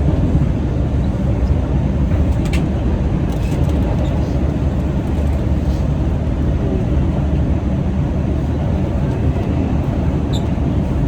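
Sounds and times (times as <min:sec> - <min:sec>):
subway car rumbling: 0:00.0 - 0:11.0.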